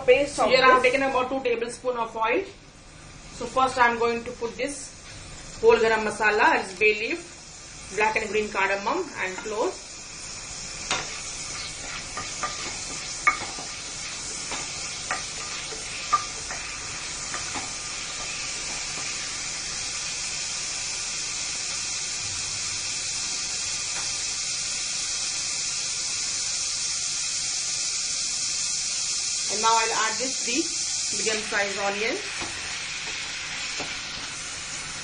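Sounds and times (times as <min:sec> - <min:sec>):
spices sizzling in hot oil: 0:00.0 - 0:35.0.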